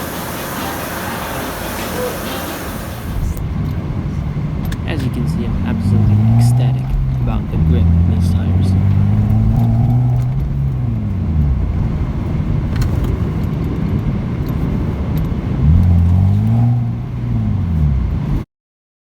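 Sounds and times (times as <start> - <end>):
car engine revving: 0.0 - 18.4
road and tyre noise: 0.0 - 18.5.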